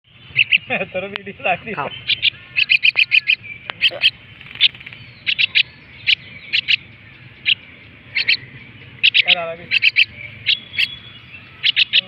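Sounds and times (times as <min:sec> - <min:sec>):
bird chick begging calls: 0:00.1 - 0:00.8, 0:01.6 - 0:12.0.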